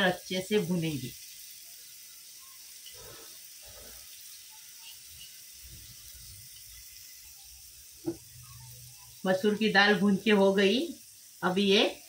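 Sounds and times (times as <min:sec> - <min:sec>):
onion sizzling in a pot: 0:00.0 - 0:12.0.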